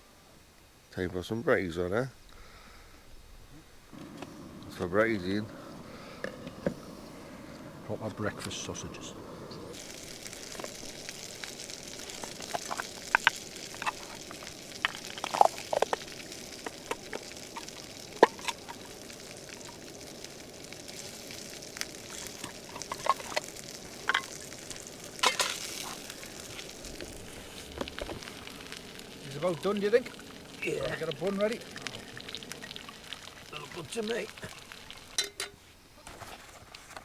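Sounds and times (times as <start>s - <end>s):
sausages sizzling in a pan: 1.7s - 36.0s
fat popping and spitting: 3.9s - 35.4s.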